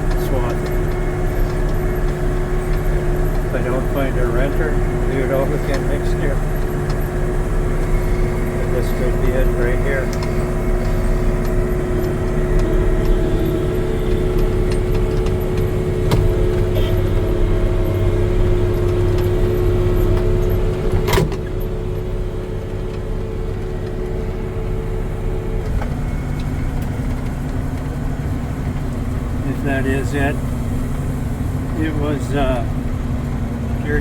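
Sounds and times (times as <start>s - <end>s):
swather engine hum with whine: 0.0s - 34.0s.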